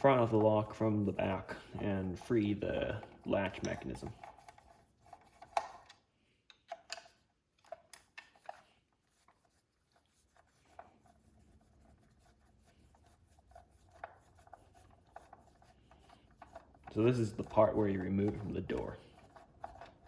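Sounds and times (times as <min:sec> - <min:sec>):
screwdriver clicks and scrapes: 0:00.0 - 0:11.3, 0:13.0 - 0:20.0.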